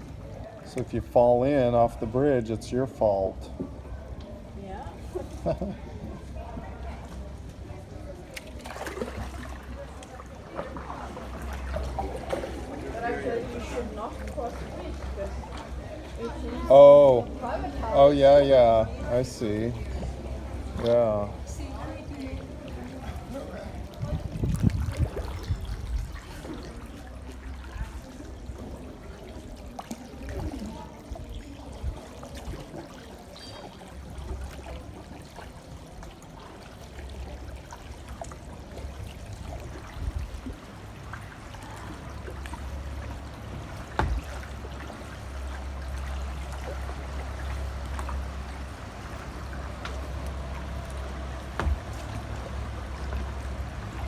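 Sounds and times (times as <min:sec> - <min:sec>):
paddle splashing in water: 0:03.5 - 0:18.0, 0:18.6 - 0:54.0.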